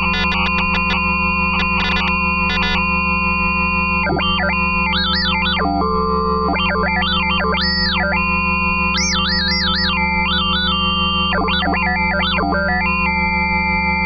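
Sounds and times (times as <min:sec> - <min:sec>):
synthesizer drone: 0:00.0 - 0:14.0.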